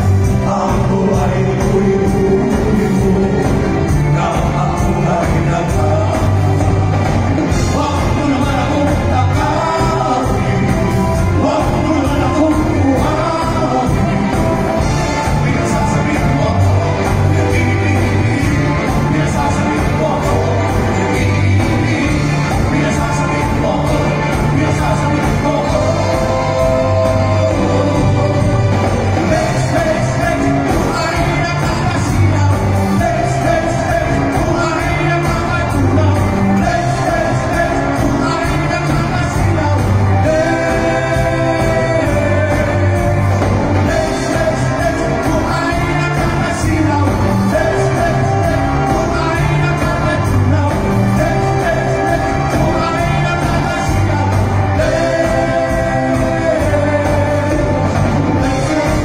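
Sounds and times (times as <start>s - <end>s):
men singing: 0.0s - 59.0s
pop-rock band playing: 0.0s - 59.0s.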